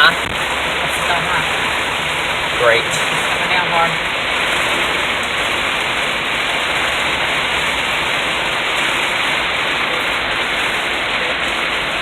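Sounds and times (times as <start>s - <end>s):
heavy rain on car roof: 0.0s - 12.0s.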